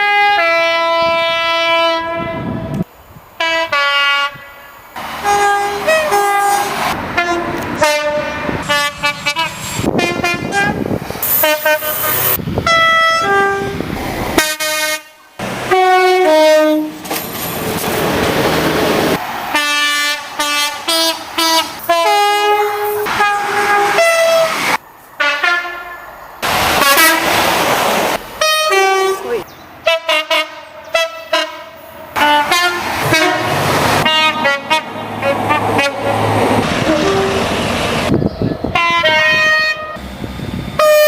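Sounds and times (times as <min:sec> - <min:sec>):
train two-tone horn blasts: 0:00.0 - 0:13.8, 0:14.4 - 0:17.0, 0:19.5 - 0:26.0, 0:26.8 - 0:27.4, 0:28.4 - 0:37.6, 0:38.7 - 0:40.0, 0:40.8 - 0:41.0
train running noise: 0:02.0 - 0:41.0.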